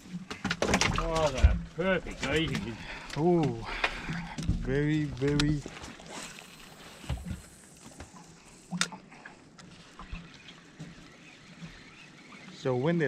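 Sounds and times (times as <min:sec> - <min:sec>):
faint water sounds: 0:00.0 - 0:13.0.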